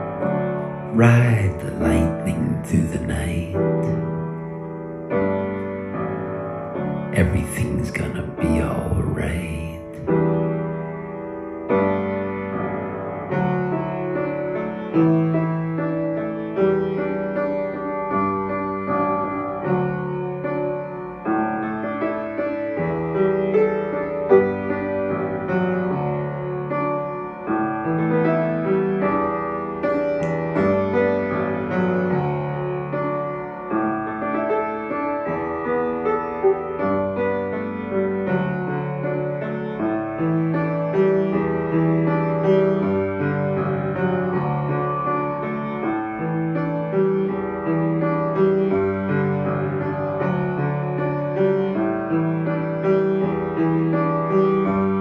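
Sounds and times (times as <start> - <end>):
upright piano playing: 0.0 - 55.0.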